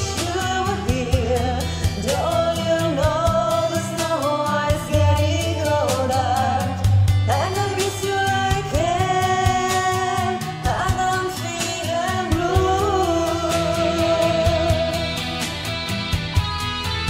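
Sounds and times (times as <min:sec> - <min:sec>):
person singing long notes: 0:00.0 - 0:15.4
band with steady beat: 0:00.0 - 0:17.0.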